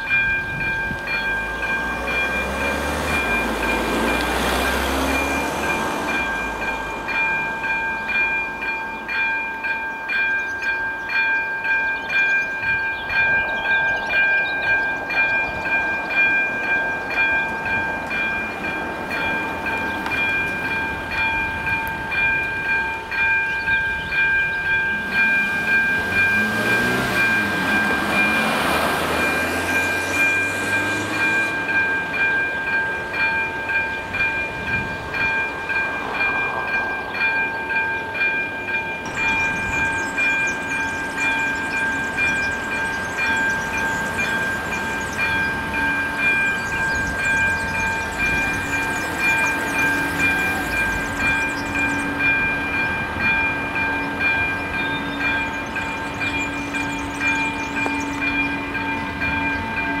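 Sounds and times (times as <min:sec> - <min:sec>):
diesel locomotive humming: 0:00.0 - 1:00.0
level crossing bell ringing: 0:00.0 - 1:00.0.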